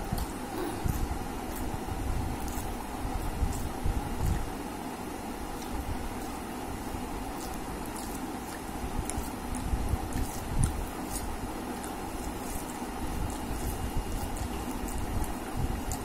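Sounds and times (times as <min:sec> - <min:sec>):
fingers squelching wet rice: 0:00.0 - 0:16.0
steady background noise: 0:00.0 - 0:16.0.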